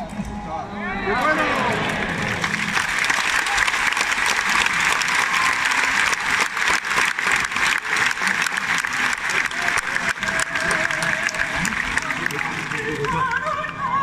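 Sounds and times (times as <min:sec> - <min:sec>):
large crowd applauding: 0:01.1 - 0:14.0.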